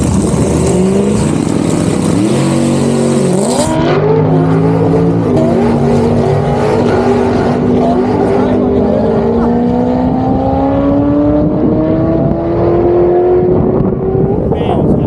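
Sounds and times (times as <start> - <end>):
car engines accelerating: 0.0 - 15.0.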